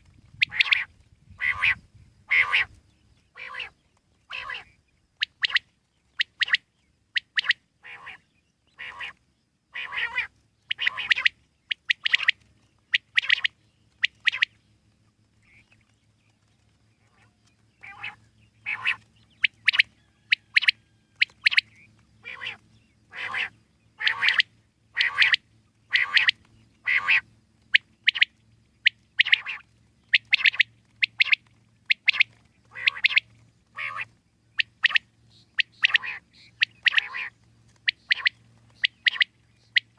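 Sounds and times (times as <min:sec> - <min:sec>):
quail calling: 0:00.3 - 0:14.6, 0:17.0 - 0:39.9.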